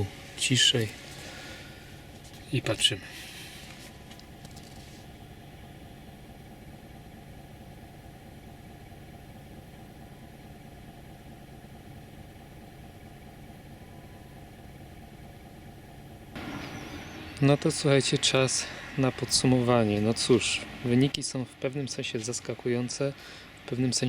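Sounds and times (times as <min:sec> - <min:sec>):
faint car engine idling: 0:00.0 - 0:24.0.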